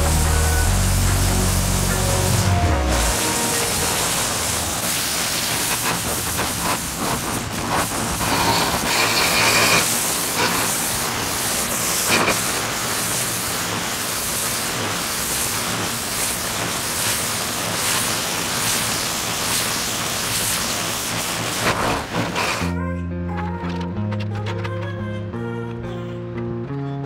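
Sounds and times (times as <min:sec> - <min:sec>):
pressure washer spray hissing: 0:00.0 - 0:22.7.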